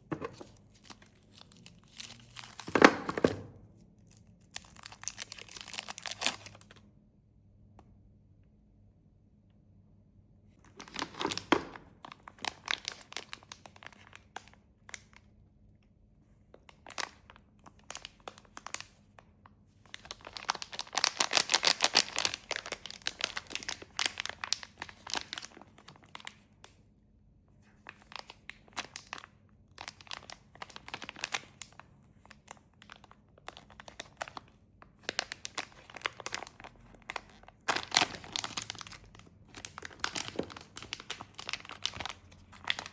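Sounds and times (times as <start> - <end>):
plastic wrappers crinkling: 0.1 - 3.5, 4.1 - 6.8, 10.7 - 15.2, 16.7 - 26.5, 27.8 - 42.9.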